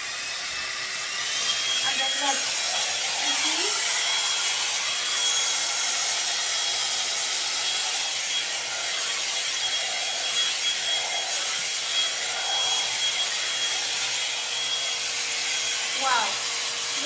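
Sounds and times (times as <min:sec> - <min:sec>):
hot air brush fan whining: 0:00.0 - 0:17.0.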